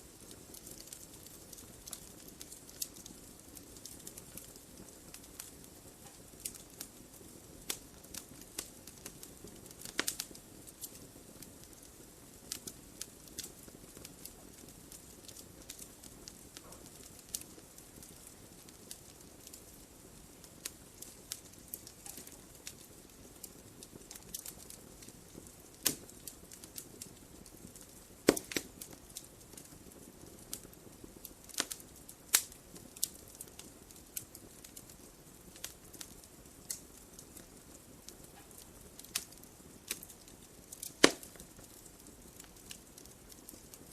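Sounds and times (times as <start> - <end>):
logs crackling and popping: 0.0 - 43.9
wood fire hissing: 0.0 - 43.9.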